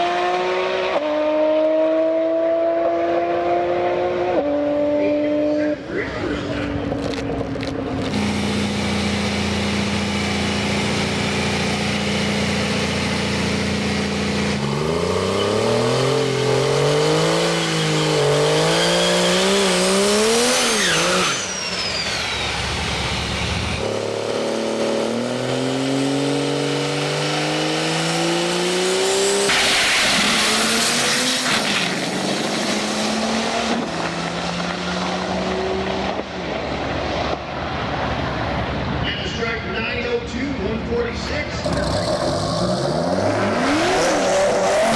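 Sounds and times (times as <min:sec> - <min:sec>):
race car engines accelerating: 0:00.0 - 0:44.9.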